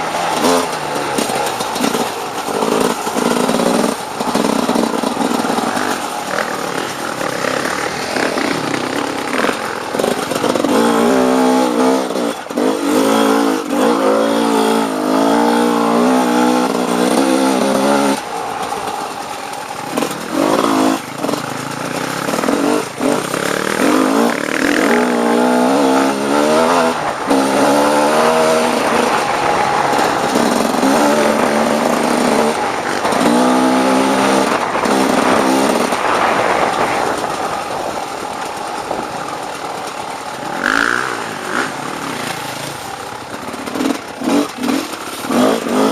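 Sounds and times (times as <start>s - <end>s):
dirt bike engine revving: 0.0s - 38.7s, 39.3s - 45.9s.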